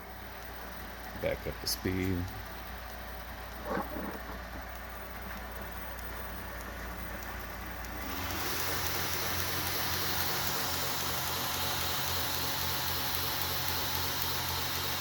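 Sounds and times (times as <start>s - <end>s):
belt grinder running: 0.0s - 15.0s.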